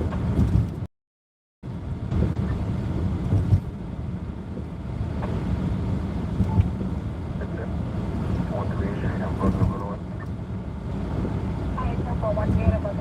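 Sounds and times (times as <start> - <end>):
car road noise rumble: 0.0 - 0.9, 1.6 - 13.0.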